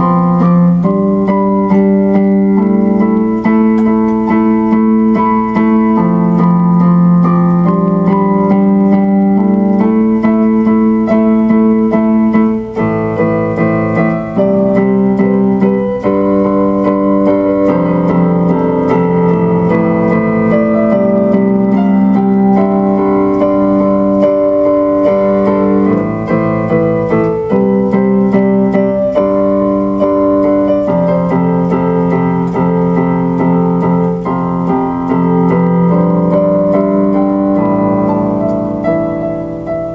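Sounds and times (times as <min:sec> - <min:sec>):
electronic keyboard chords: 0:00.0 - 0:39.9.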